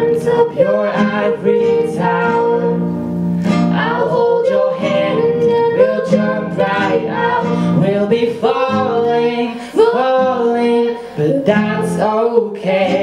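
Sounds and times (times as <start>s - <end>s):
woman singing: 0.0s - 3.0s, 3.6s - 13.0s
acoustic guitar: 0.0s - 13.0s.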